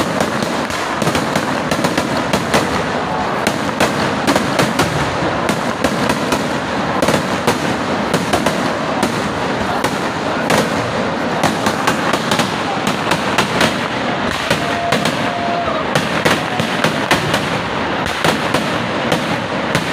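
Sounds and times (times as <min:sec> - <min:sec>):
fireworks crackling and banging: 0:00.0 - 0:19.9.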